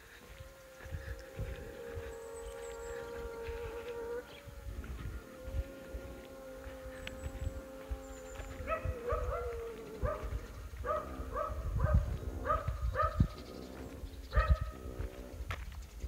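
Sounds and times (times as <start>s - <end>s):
animal calling: 0.0s - 15.5s
low rumble: 0.3s - 15.7s.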